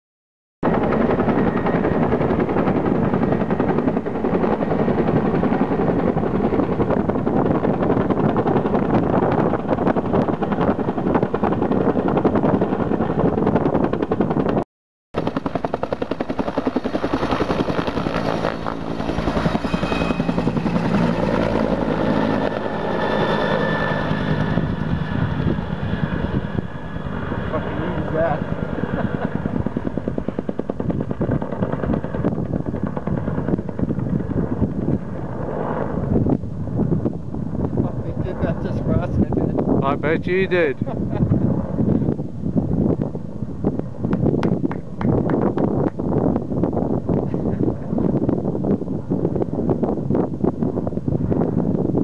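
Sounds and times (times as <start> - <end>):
helicopter rotor chop: 0.6 - 14.6, 15.2 - 52.0
helicopter whine: 0.6 - 14.6, 15.2 - 52.0.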